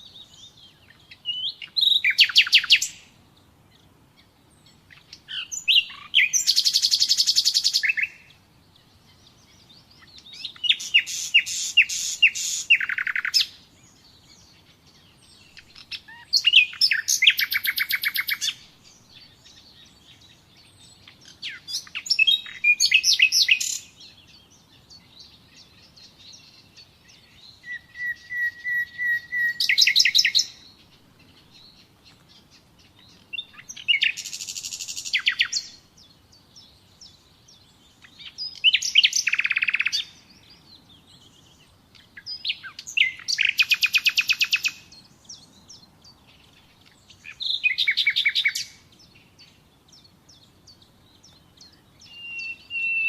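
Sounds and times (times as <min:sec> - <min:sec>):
nightingale singing: 0:00.0 - 0:53.0.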